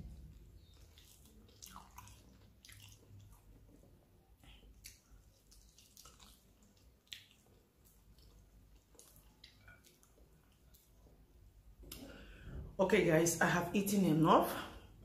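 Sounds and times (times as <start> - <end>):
wet chewing and mouth smacking: 0.0 - 12.1.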